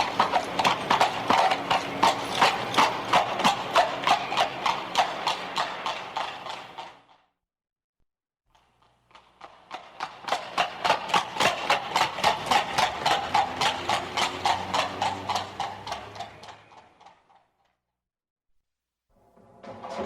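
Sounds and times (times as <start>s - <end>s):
horse hooves on pavement: 0.0s - 7.2s, 8.5s - 17.7s.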